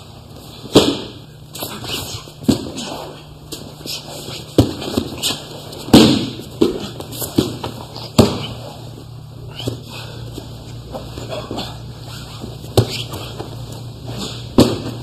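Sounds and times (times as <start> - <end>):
bodies slapping on padded mat: 0.6 - 8.8, 9.5 - 15.0.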